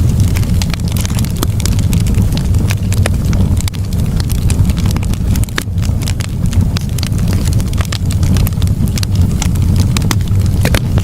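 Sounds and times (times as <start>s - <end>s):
campfire low rumble: 0.0s - 11.0s
wood crackling and popping: 0.0s - 11.0s.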